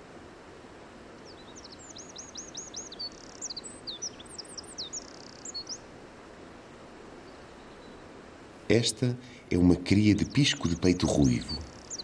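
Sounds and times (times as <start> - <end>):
faint background hiss: 0.0 - 12.0
songbird singing: 1.1 - 5.9, 6.8 - 12.0.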